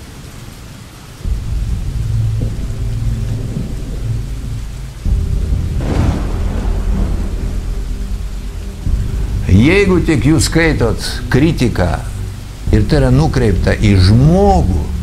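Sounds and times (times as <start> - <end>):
steady rain: 0.0 - 15.0
thunder rumbling: 1.2 - 15.0.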